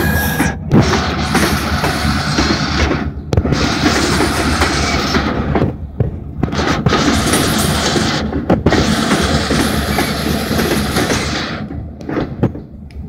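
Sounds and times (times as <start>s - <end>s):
train cars clanking and banging: 0.0s - 13.0s
train wheels rumbling on rail: 0.0s - 13.0s.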